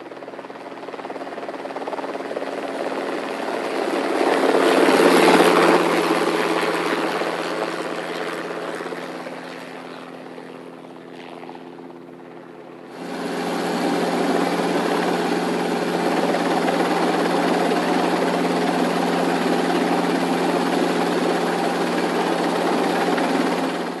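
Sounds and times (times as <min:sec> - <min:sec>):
drone propellers humming: 0:00.8 - 0:24.0.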